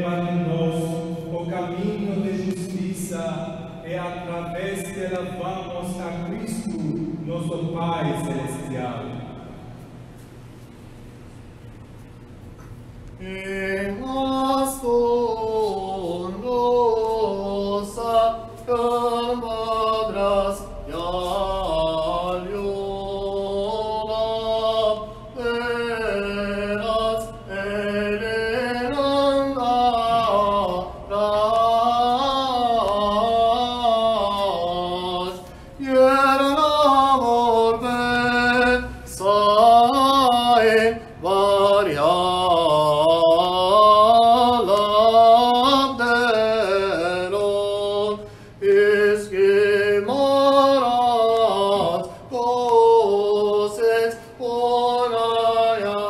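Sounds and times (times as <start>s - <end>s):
man chanting a hymn: 0.0s - 9.8s, 13.2s - 56.0s.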